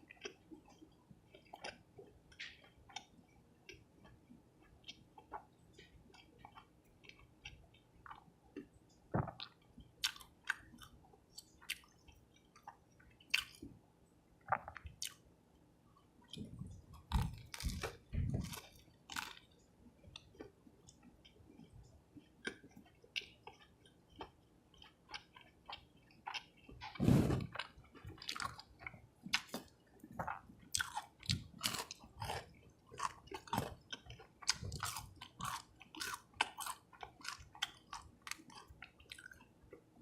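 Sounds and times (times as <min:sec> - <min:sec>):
close chewing with mouth clicks: 0:00.0 - 0:13.7, 0:16.2 - 0:39.9.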